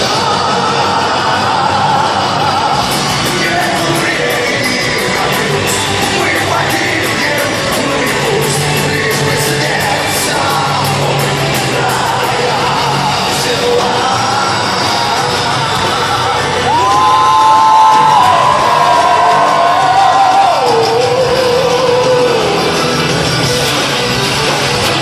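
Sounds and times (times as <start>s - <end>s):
person singing: 0.0s - 23.3s
distorted guitars: 0.0s - 25.0s
drums with cymbal hits: 0.0s - 25.0s
heavy metal band playing: 0.0s - 25.0s.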